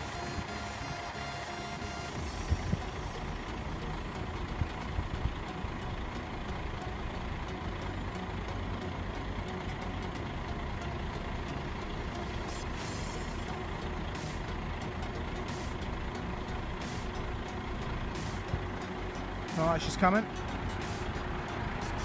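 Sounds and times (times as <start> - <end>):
vehicles idling: 0.0 - 22.0.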